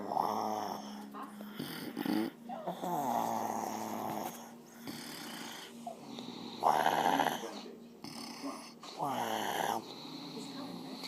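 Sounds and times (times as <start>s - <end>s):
quiet breathing: 0.0s - 11.0s
woman snoring: 0.0s - 11.0s.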